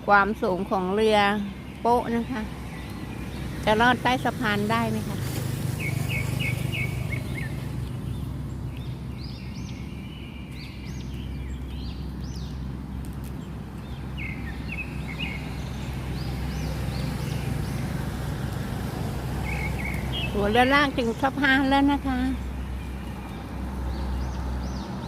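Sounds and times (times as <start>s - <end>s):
boat diesel engine droning: 0.0s - 25.0s
small birds chirping: 0.0s - 25.0s.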